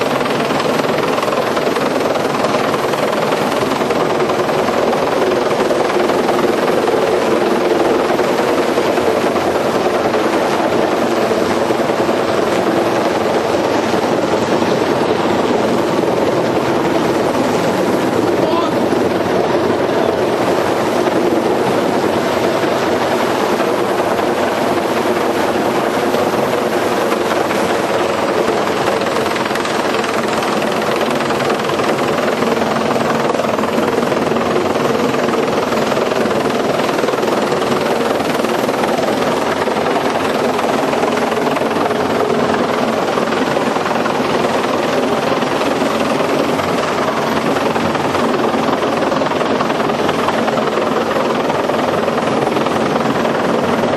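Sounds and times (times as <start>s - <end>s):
helicopter engine and rotor noise: 0.0s - 53.9s.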